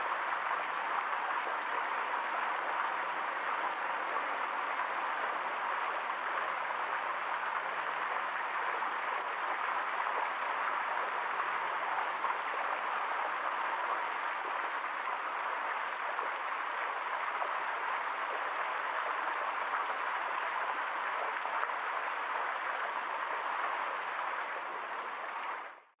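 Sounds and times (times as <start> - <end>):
fountain water splashing: 0.0 - 25.9.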